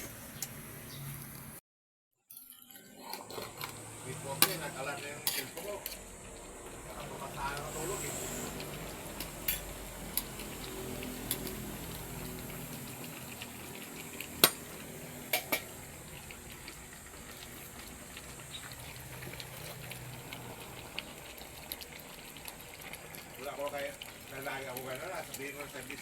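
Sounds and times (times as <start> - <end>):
pot bubbling: 2.6 - 26.0.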